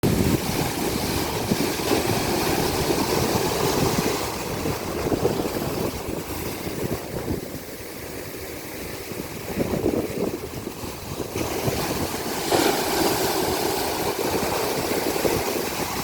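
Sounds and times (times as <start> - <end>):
ocean surf breaking: 0.0 - 16.0
wind rumbling on microphone: 0.0 - 16.0.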